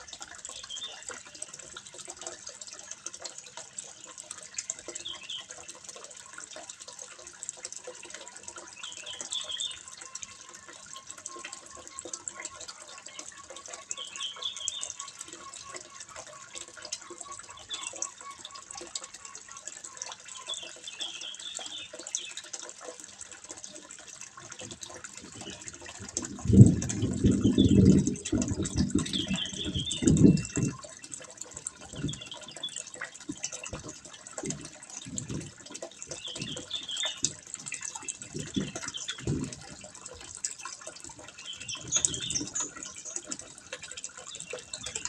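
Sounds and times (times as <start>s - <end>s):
water trickling into a pond: 0.0s - 45.0s.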